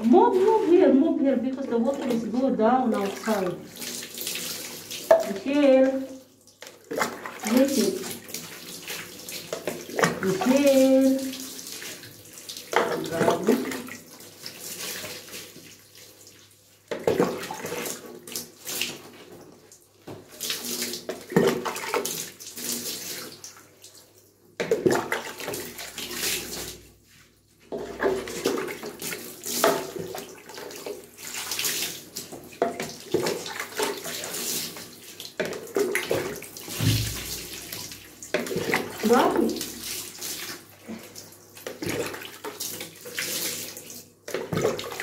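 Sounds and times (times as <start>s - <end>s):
cup scooping water from bucket: 0.0s - 15.8s, 24.6s - 45.0s
water poured splashing: 0.1s - 19.3s, 20.2s - 26.9s, 27.7s - 45.0s.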